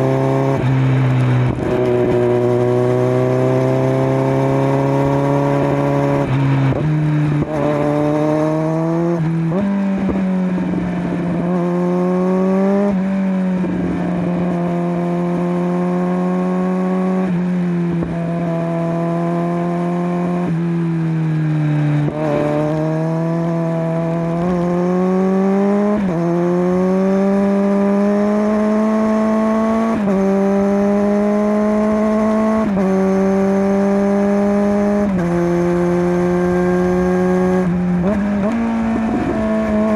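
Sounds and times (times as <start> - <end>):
motorcycle engine through gears: 0.0 - 39.9.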